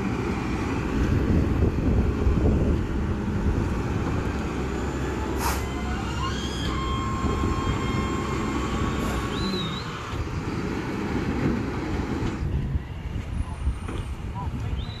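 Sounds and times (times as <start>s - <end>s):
garbage truck diesel engine running: 0.0s - 12.8s.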